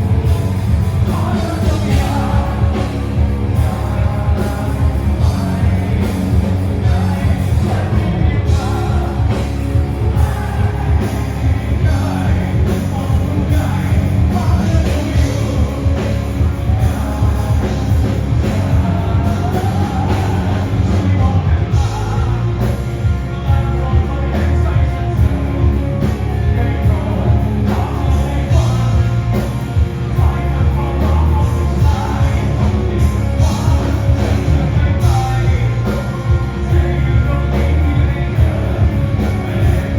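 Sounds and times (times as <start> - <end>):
rock song with singing: 0.0 - 39.9
steady drum beat: 0.0 - 39.9.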